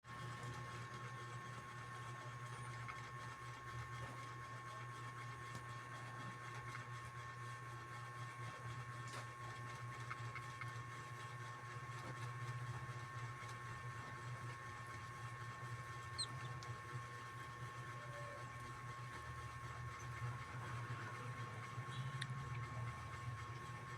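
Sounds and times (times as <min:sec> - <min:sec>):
steady background hum: 0:00.2 - 0:23.9.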